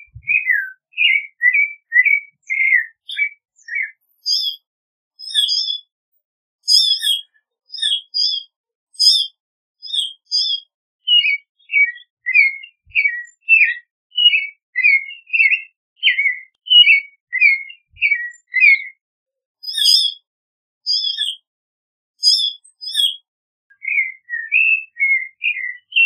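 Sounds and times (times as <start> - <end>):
high bird chirps in pairs: 0.0 - 5.9, 6.6 - 19.0, 19.6 - 21.5, 22.2 - 26.0
thrush whistled song: 0.0 - 5.9, 6.6 - 19.0, 22.2 - 26.0.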